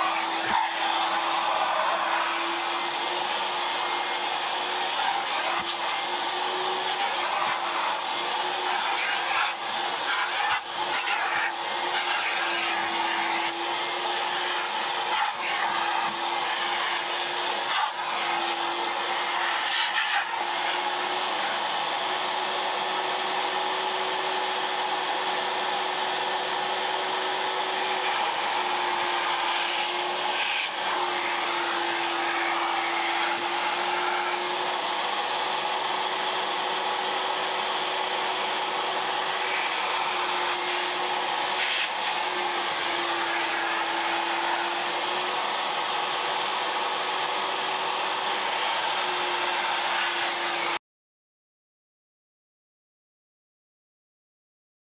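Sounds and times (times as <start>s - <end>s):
vacuum cleaner running: 0.0s - 50.8s.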